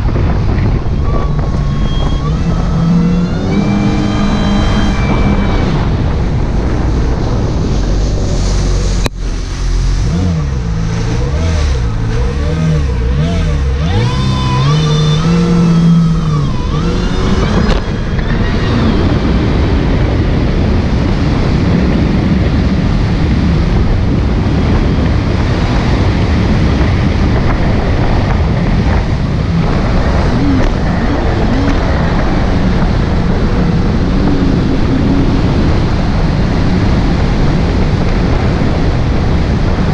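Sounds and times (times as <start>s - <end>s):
jet ski engine: 0.0s - 39.9s
wind and water spray rushing: 0.0s - 39.9s.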